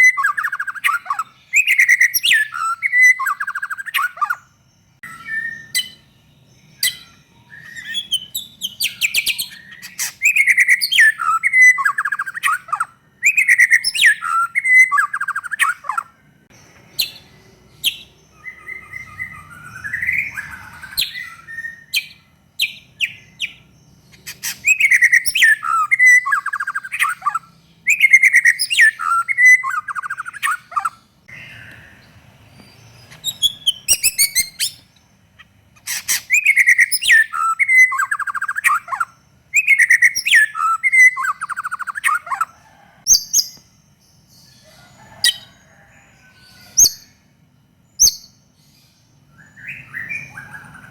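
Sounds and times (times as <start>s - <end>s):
songbird singing trills and whistles: 0.0s - 50.9s.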